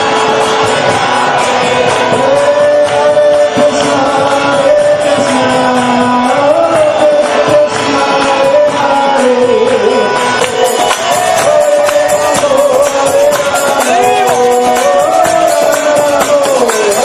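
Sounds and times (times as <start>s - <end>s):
drums beating: 0.0s - 17.0s
held instrumental tones: 0.0s - 17.0s
jingling metal percussion: 0.0s - 17.0s
voices singing devotional music: 0.0s - 17.0s.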